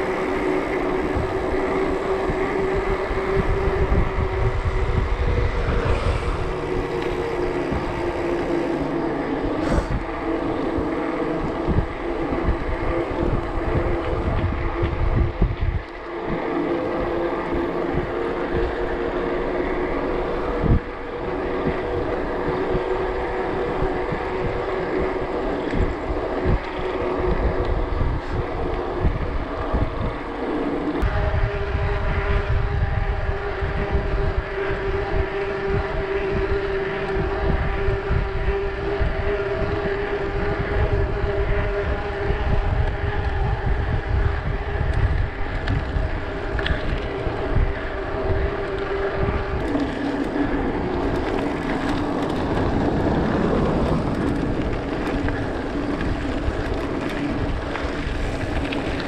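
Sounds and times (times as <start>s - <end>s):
droning hum with overtones: 0.0s - 59.0s
wind buffeting microphone: 0.0s - 59.0s.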